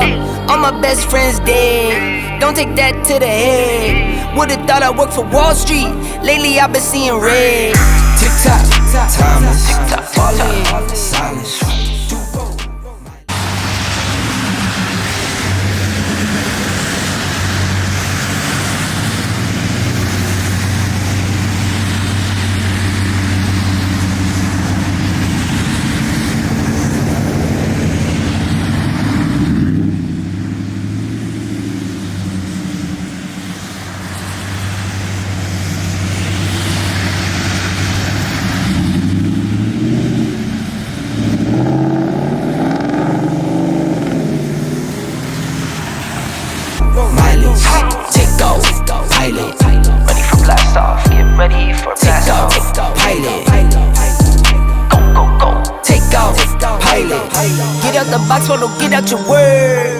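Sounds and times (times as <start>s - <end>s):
car engine idling: 0.0s - 59.9s
car engine revving: 0.0s - 59.9s.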